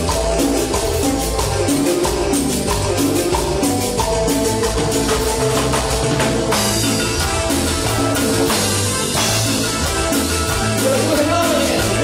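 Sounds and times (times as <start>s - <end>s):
drum kit beat: 0.0s - 12.0s
electric bass line: 0.0s - 12.0s
sustained keyboard chords: 0.0s - 12.0s.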